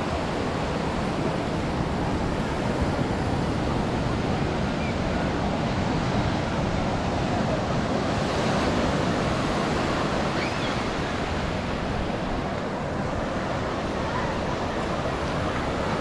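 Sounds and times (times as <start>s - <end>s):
surf washing onto beach: 0.0s - 16.0s.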